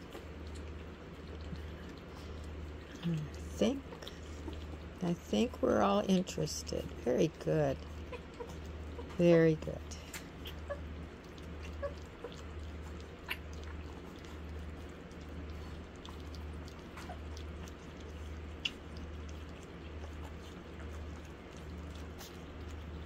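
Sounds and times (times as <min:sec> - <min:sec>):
puppies chewing wet food: 0:00.0 - 0:23.0
steady low hum: 0:00.0 - 0:23.0.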